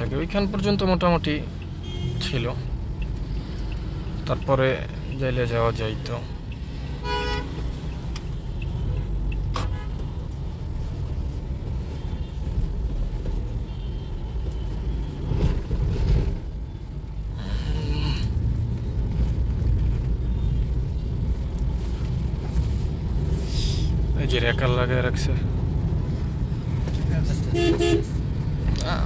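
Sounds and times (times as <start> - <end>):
traffic rumble inside car: 0.0 - 29.0.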